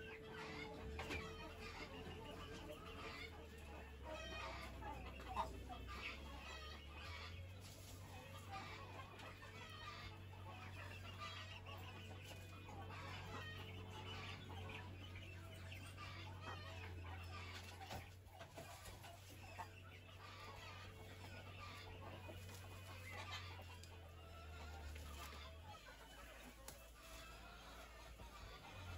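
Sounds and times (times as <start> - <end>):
chickens clucking softly: 0.0 - 28.9.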